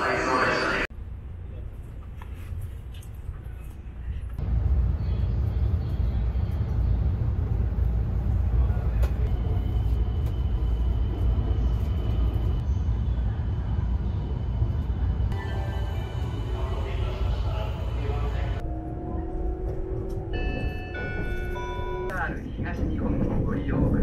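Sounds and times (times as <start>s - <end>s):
train running gear rumble: 1.5s - 24.0s.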